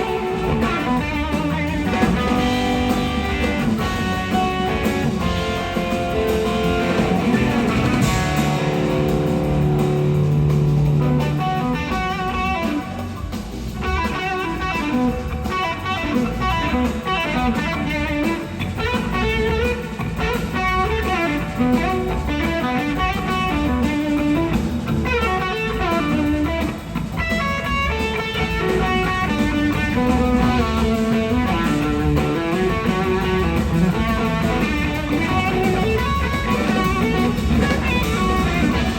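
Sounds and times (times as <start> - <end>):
bass and drums: 0.0 - 38.9.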